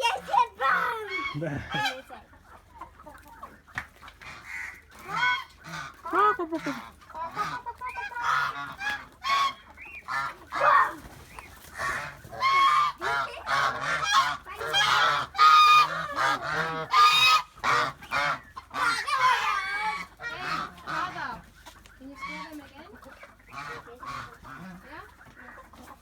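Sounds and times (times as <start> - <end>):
farm birds alarm calling: 0.0 - 26.0.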